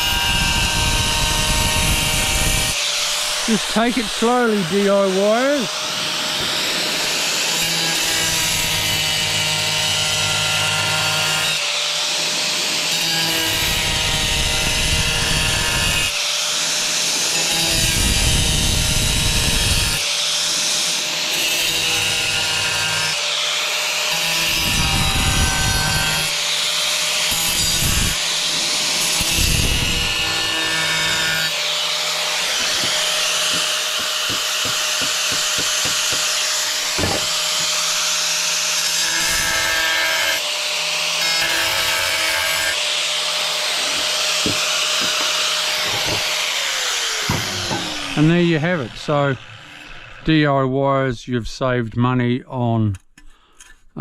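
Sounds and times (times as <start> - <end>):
angle grinder motor whine: 0.0 - 50.3
grinder disc cutting tile: 0.0 - 50.4.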